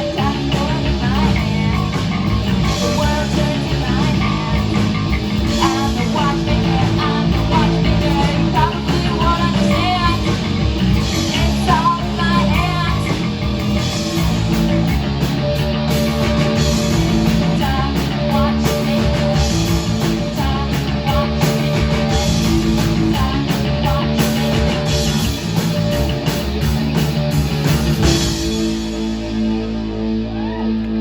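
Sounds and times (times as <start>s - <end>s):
punk rock band playing live: 0.0s - 31.0s.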